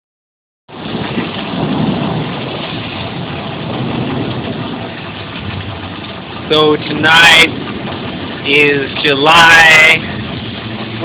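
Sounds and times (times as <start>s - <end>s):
heavy rain pouring: 0.7s - 11.0s.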